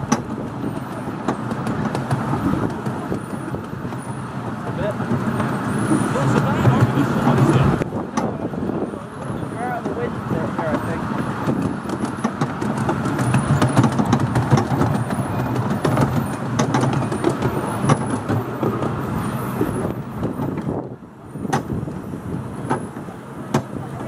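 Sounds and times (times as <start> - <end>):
sharp clicks over rail joints: 0.0 - 8.5, 9.2 - 24.0
carriage wheels rumbling on track: 0.0 - 24.0.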